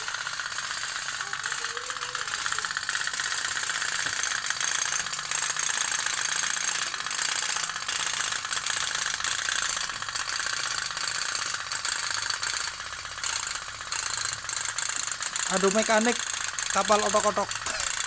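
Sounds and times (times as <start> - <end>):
toy boat fast popping: 0.0 - 18.0.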